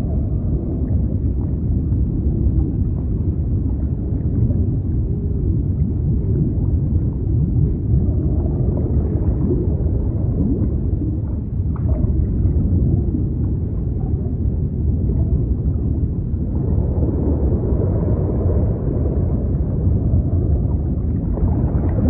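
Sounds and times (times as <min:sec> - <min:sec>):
deep underwater rumble: 0:00.0 - 0:22.0.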